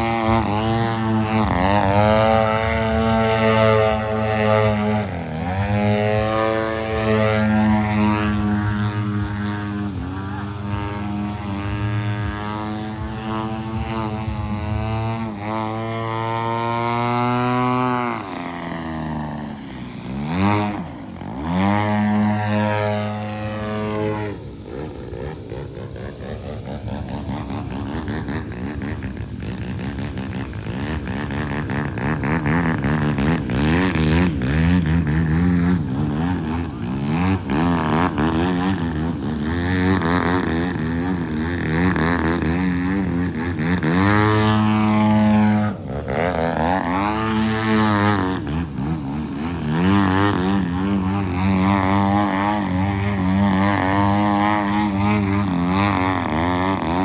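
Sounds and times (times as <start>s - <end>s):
model airplane engine and propeller: 0.0s - 57.0s.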